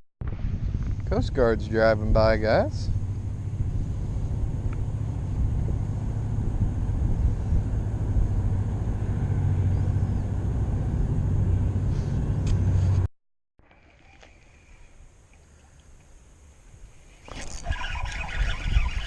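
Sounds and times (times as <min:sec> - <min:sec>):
boat engine rumbling: 0:00.2 - 0:15.6, 0:17.2 - 0:19.0.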